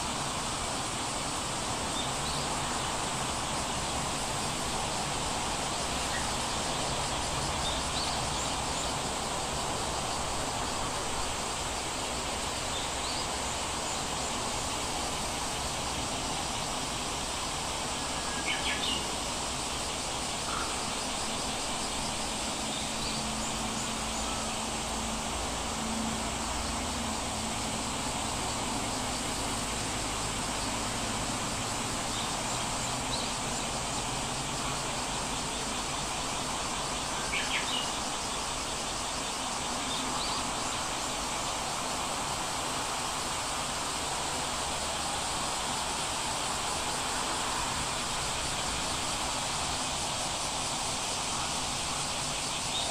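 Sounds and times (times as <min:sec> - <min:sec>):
outdoor ambient hiss: 0:00.0 - 0:52.9.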